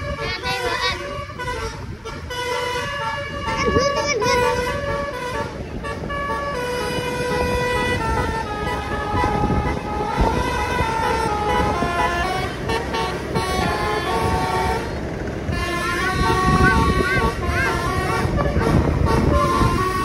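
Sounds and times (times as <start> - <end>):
motor scooter rumble: 0.0 - 20.0
musical horn playing tune: 0.0 - 20.0
road noise: 0.0 - 20.0.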